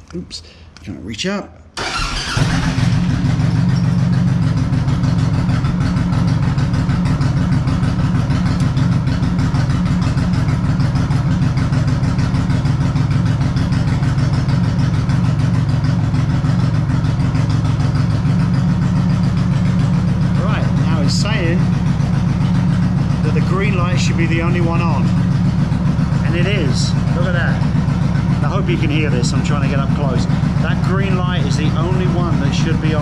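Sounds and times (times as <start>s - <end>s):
motorcycle engine idling: 1.8s - 33.0s.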